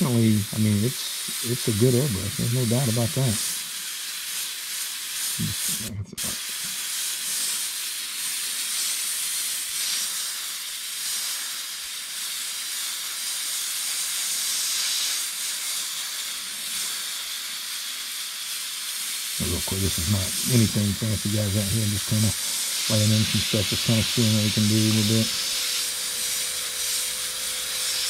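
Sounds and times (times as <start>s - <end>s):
airbrush hissing: 0.0s - 28.0s.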